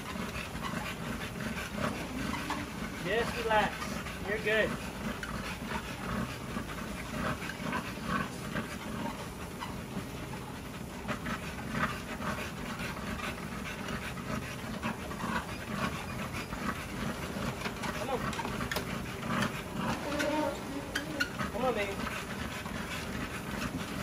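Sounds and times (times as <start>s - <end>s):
dog panting: 0.0s - 24.0s
treadmill running: 0.0s - 24.0s.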